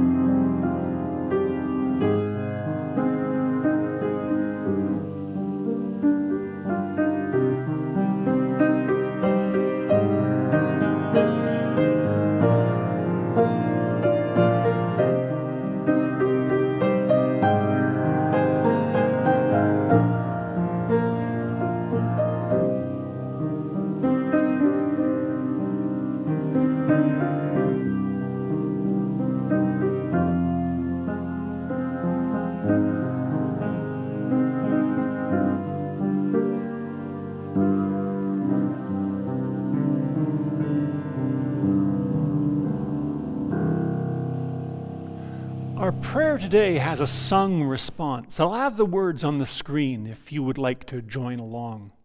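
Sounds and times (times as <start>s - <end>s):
slow piano piece: 0.0s - 50.4s.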